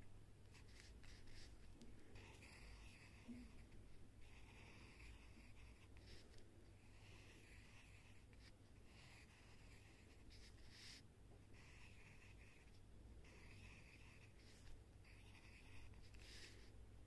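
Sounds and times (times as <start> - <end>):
pencil scratching on paper: 0.5 - 16.7.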